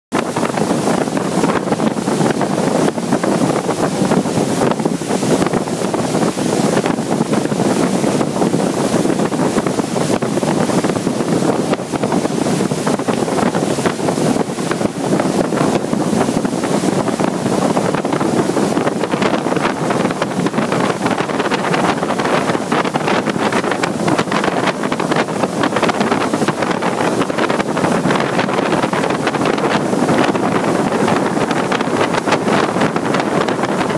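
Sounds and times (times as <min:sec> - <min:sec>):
strong wind rushing: 0:00.1 - 0:33.9
wind buffeting microphone: 0:00.1 - 0:33.9.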